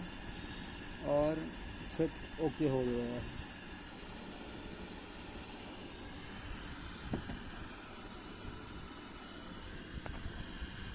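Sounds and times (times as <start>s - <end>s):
steady background hiss: 0.0s - 10.9s.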